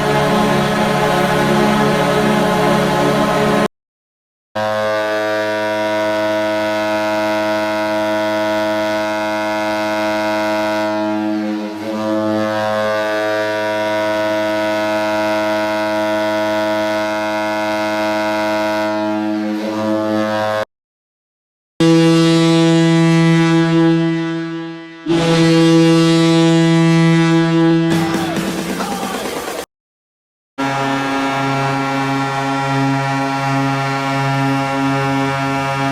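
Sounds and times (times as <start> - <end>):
goal horn blowing: 0.0 - 3.7, 4.6 - 20.6, 21.8 - 29.1, 30.6 - 35.9.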